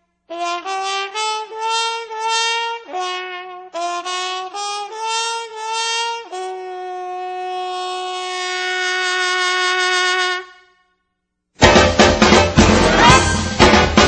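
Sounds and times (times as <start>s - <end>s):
wind instrument melody: 0.3s - 10.7s, 11.6s - 14.0s.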